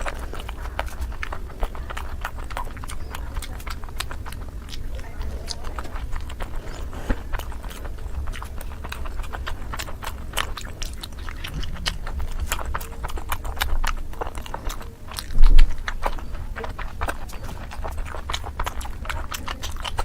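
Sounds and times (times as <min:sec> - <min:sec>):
wet chewing and lip smacks: 0:00.0 - 0:20.0.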